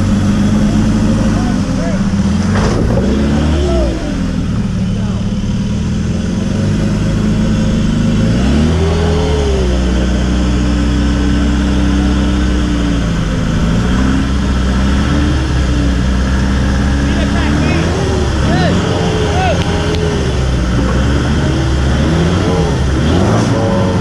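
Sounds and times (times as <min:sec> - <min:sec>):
car engine revving under load: 0:00.0 - 0:24.0.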